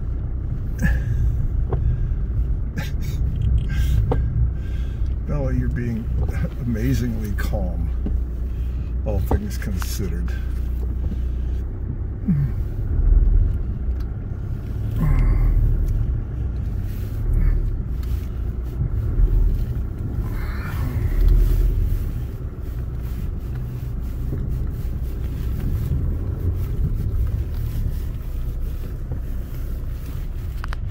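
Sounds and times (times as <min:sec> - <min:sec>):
vehicle engine rumbling: 0:00.0 - 0:30.9.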